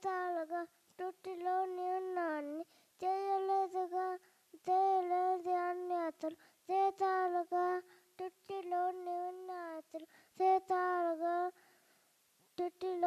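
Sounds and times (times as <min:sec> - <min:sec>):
boy singing unaccompanied: 0:00.0 - 0:11.7, 0:12.5 - 0:13.0.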